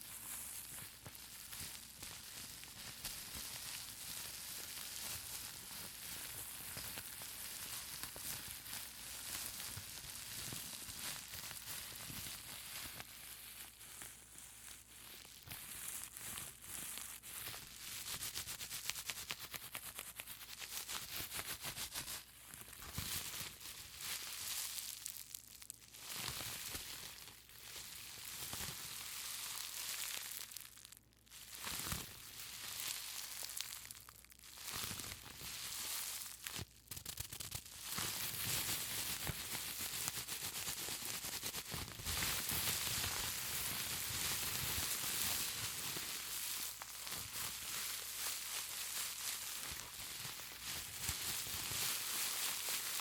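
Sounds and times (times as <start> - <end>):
bubble wrap crinkling and crackling: 0.0 - 53.0.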